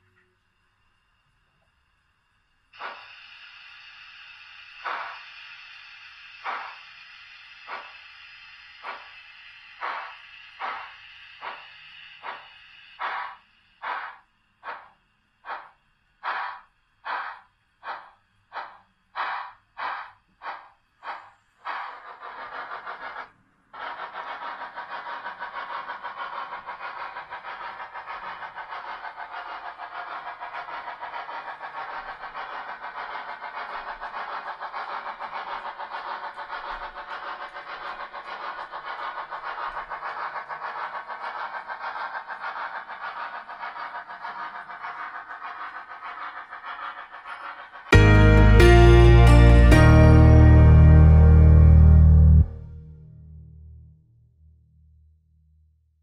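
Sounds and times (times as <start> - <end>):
steam hiss: 0.0 - 50.3
steam locomotive chuffing: 2.6 - 52.8.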